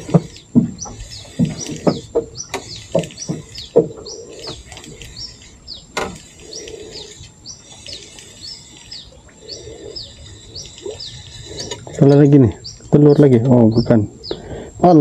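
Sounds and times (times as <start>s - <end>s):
bird high chirp: 0.0s - 15.0s.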